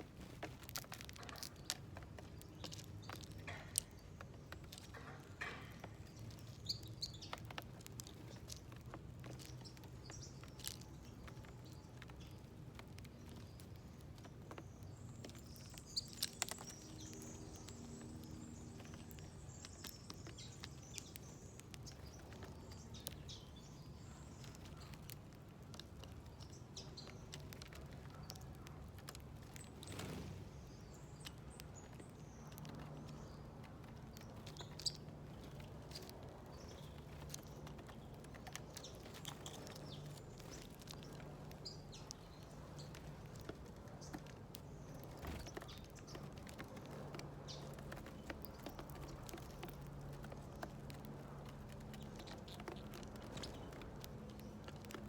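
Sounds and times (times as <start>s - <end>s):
birds tapping and pecking: 0.0s - 55.0s
small birds chirping: 0.0s - 55.0s.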